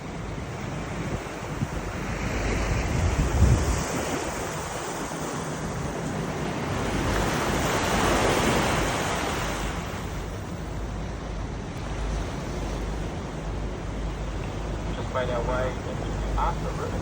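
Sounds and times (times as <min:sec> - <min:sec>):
water rushing past hull: 0:00.0 - 0:17.0
wind buffeting microphone: 0:00.0 - 0:17.0.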